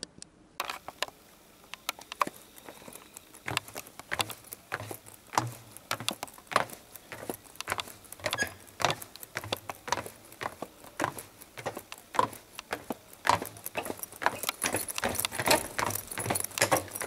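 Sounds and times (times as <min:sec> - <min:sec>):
clicking and scuffing: 0:00.6 - 0:17.0.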